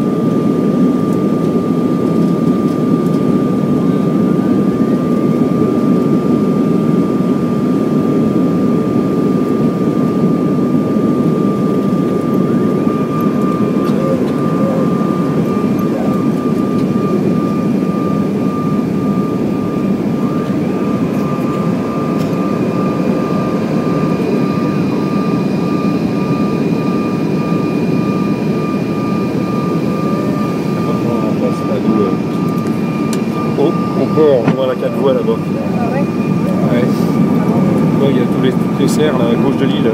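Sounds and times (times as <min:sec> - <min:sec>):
higher whine: 0:00.0 - 0:39.9
jet cabin airflow and engines: 0:00.0 - 0:39.9
steady high whine: 0:00.0 - 0:39.9.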